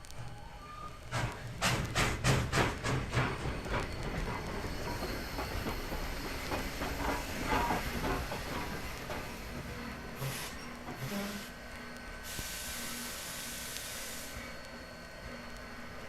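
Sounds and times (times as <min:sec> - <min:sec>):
train hiss and rumble: 0:00.0 - 0:16.0
steam locomotive exhaust chuffing: 0:01.1 - 0:14.7.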